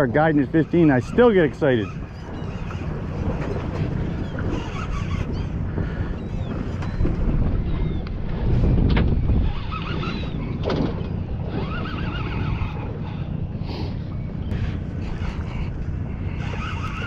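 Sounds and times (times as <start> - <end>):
gulls crying: 0.0 - 8.2, 9.3 - 17.0
wind buffeting microphone: 0.0 - 17.0.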